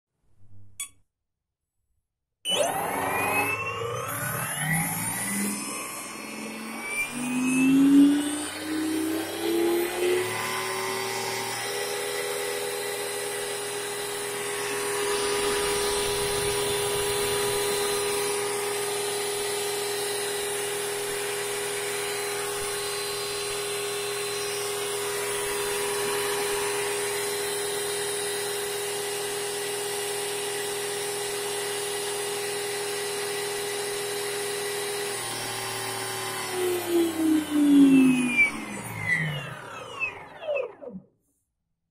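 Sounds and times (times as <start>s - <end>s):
electric motor and gears whining: 2.5s - 41.1s.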